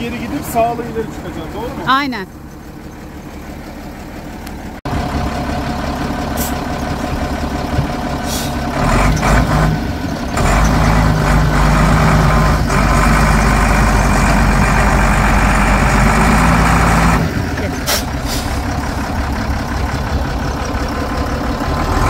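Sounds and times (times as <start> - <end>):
vehicle engine running under load: 0.0 - 22.0.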